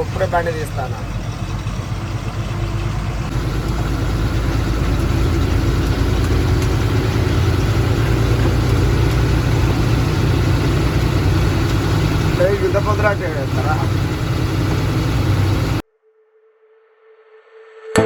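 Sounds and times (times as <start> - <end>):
diesel truck engine pulling away: 0.0 - 15.8.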